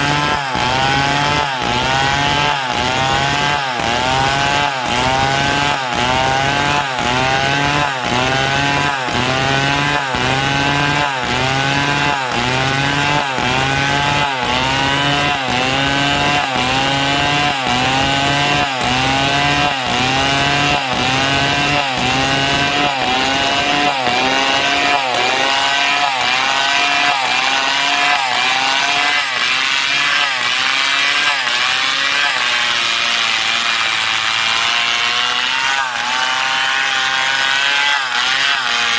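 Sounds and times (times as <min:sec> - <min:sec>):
chainsaw sawing through wood: 0:00.0 - 0:38.9.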